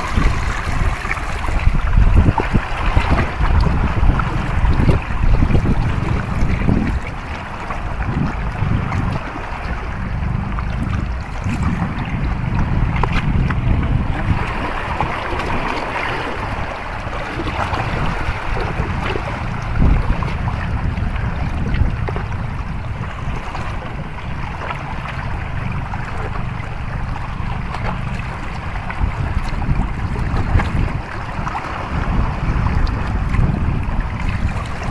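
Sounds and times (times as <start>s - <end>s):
sea waves against rocks: 0.0s - 34.9s
wind buffeting microphone: 0.0s - 34.9s.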